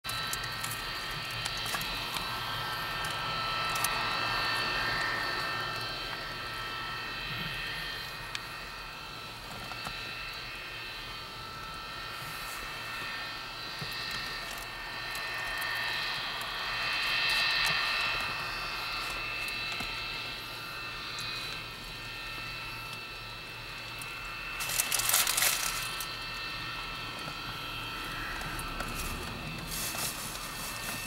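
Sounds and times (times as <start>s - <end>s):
jet engine whine and rush: 0.1s - 31.0s.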